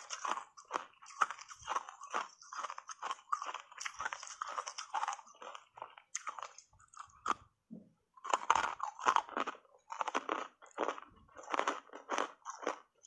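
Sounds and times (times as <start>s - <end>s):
ice crunching while chewed: 0.0s - 7.4s, 8.2s - 13.0s.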